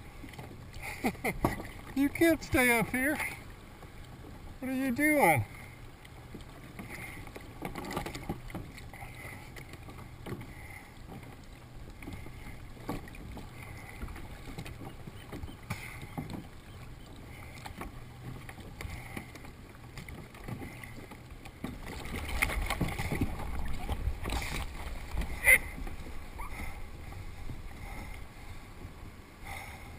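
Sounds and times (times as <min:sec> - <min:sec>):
water lapping against kayak: 0:00.0 - 0:29.9.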